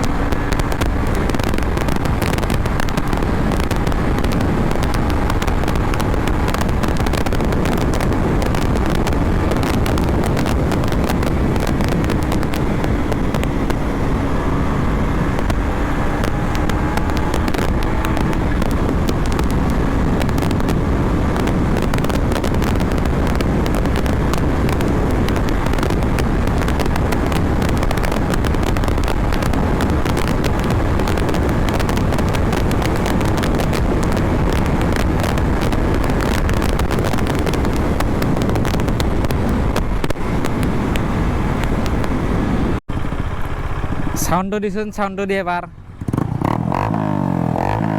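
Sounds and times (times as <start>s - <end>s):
wind rush on microphone: 0.0s - 44.4s
motorcycle engine running: 0.0s - 47.9s.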